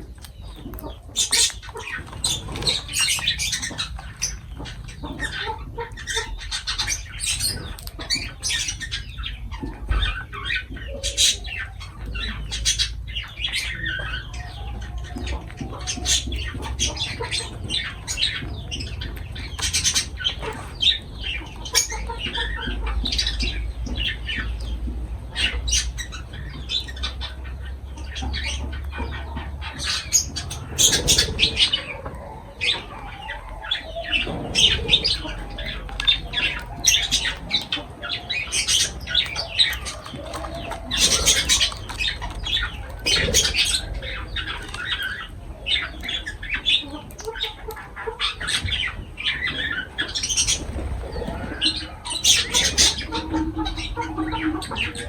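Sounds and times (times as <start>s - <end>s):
lovebirds squawking and chirping: 0.0s - 55.0s.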